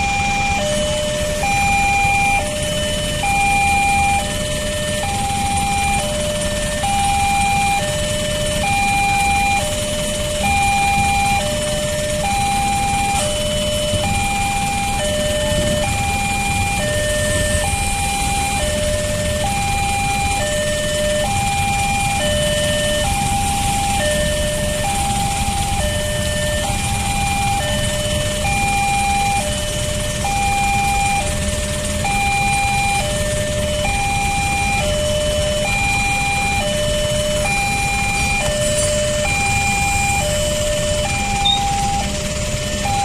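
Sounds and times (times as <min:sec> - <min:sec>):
idling car engines: 0:00.0 - 0:43.0
two-tone crossing alarm: 0:00.0 - 0:43.0.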